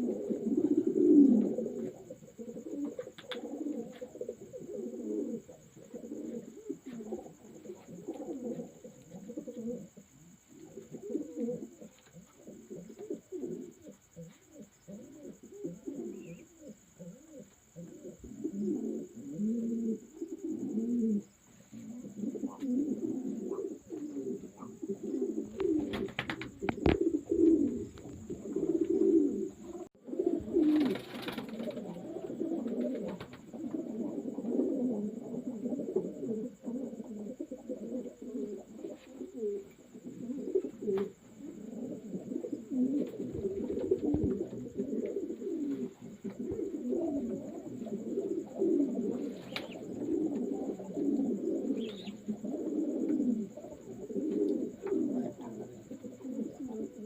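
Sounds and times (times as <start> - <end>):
pigeons cooing: 0.0 - 57.0.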